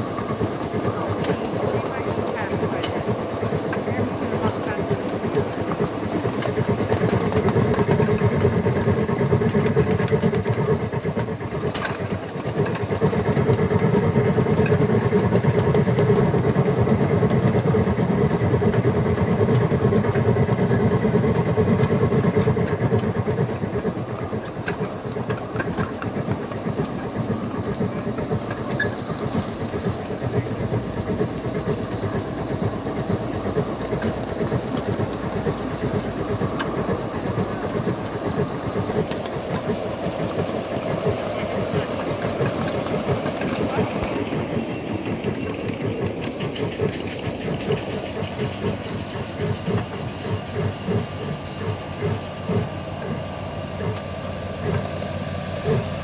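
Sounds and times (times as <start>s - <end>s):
electric drive hum: 0.0s - 56.0s
wheels rumbling on rail: 0.0s - 56.0s.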